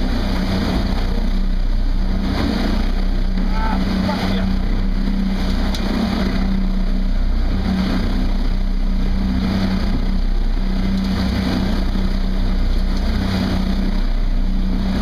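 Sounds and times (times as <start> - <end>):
boat engine humming: 0.0 - 15.0
churning wake water: 0.0 - 15.0.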